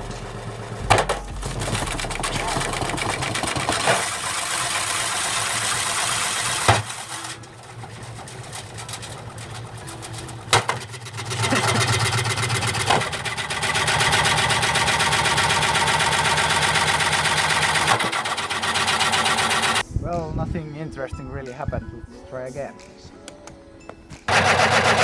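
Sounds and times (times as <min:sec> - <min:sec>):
fast rhythmic rattle in drum: 0:00.0 - 0:19.8, 0:24.3 - 0:25.0
washing machine motor hum: 0:00.0 - 0:19.8, 0:24.3 - 0:25.0.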